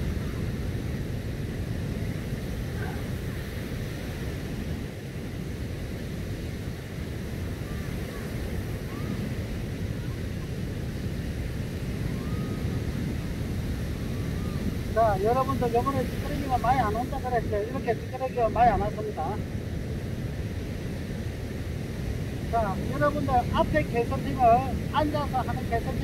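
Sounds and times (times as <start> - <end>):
surf on sandy beach: 0.0 - 26.0
wind rumbling on microphone: 0.0 - 26.0.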